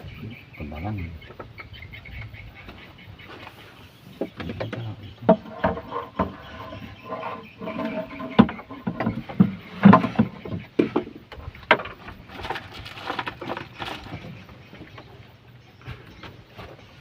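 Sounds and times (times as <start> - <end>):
knocks and clatter in a boat: 0.0 - 3.5, 4.1 - 17.0.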